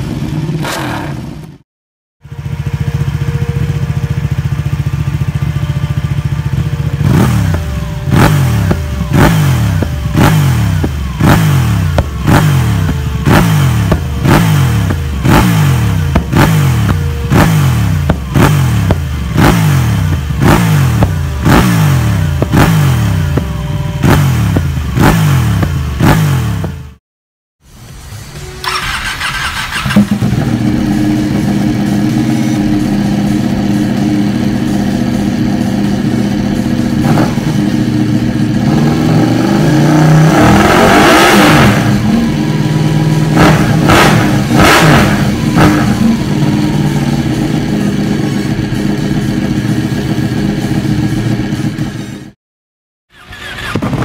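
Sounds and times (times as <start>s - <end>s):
motorcycle engine revving: 0.0s - 1.6s, 2.2s - 27.0s, 28.6s - 52.4s, 53.1s - 54.0s
motorcycle engine idling: 2.2s - 27.0s, 28.4s - 39.0s, 41.9s - 52.4s.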